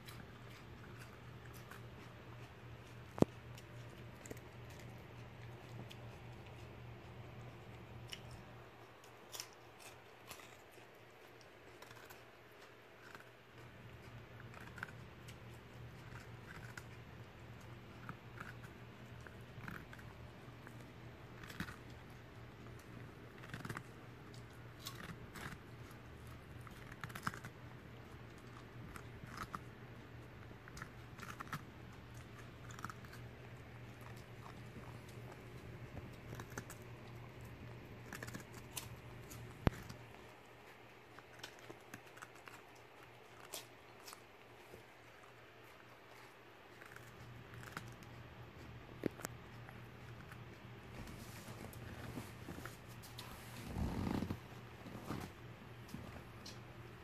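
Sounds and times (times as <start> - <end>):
dog crunching cucumber: 0.0 - 55.3.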